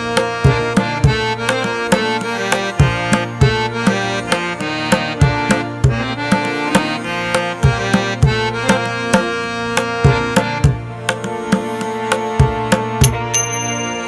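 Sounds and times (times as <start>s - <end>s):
steady drum beat: 0.0s - 13.7s
sustained melodic tones: 0.0s - 14.0s.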